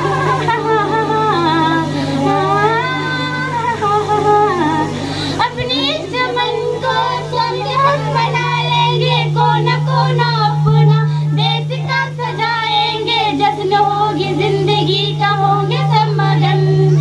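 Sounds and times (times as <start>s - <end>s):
girls singing over loudspeakers: 0.0s - 17.0s
steady low hum: 0.0s - 17.0s.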